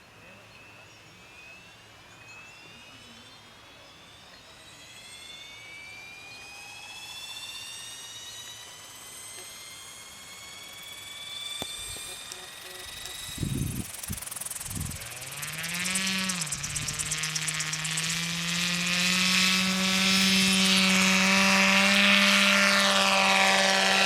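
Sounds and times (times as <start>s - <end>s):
model aircraft motor whining: 1.8s - 24.0s.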